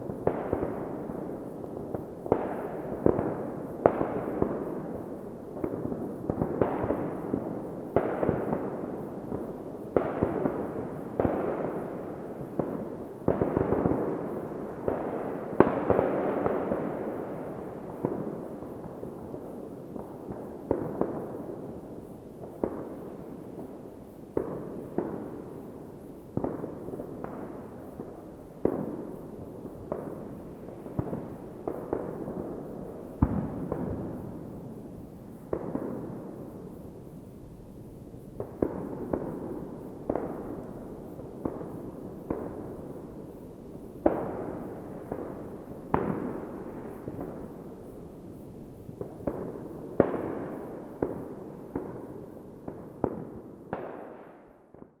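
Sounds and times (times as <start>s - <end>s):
fireworks bangs with echo: 0.0s - 37.2s, 38.3s - 47.9s, 48.7s - 55.0s
fireworks crackling: 0.0s - 55.0s.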